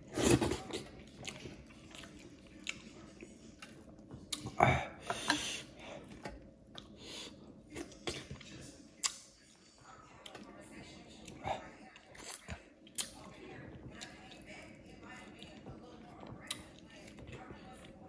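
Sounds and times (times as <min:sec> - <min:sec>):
wet chewing and mouth sounds: 0:00.0 - 0:18.0.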